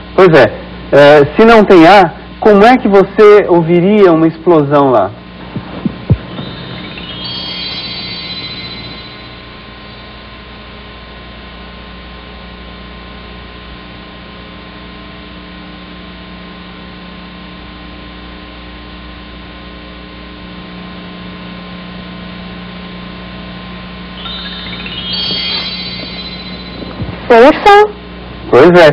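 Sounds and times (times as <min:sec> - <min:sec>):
electrical mains hum: 0:00.0 - 0:28.9.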